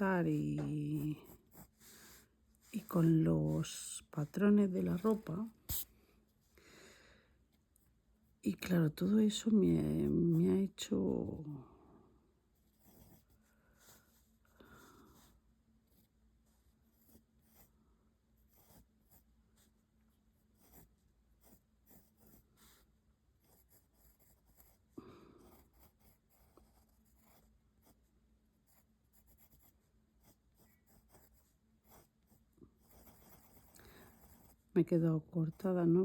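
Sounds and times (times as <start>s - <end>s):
pencil sketching on paper: 0.0s - 5.9s, 9.0s - 11.4s, 12.6s - 36.0s.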